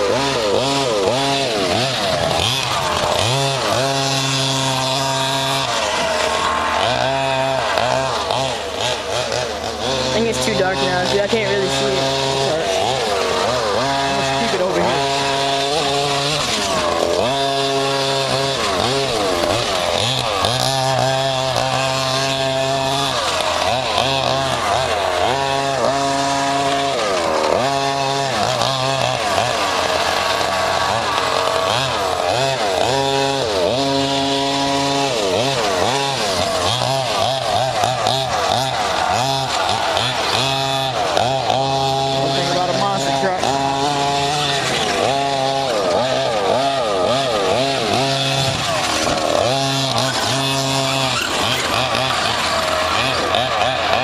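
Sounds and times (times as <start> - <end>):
rc car engines revving: 0.0 - 54.0.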